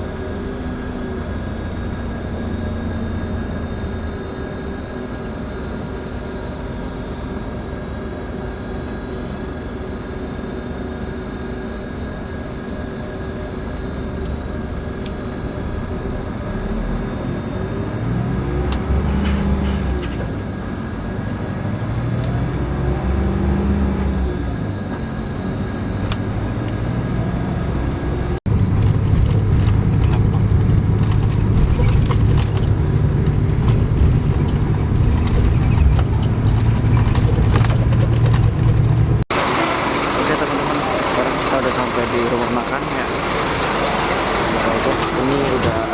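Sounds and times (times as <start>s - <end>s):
coach engine and road drone: 0.0s - 45.9s
constant whines: 0.0s - 45.9s.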